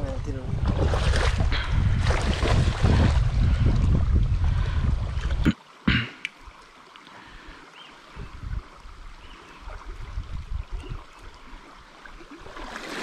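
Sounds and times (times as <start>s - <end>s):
river water running over stones: 0.0s - 13.0s.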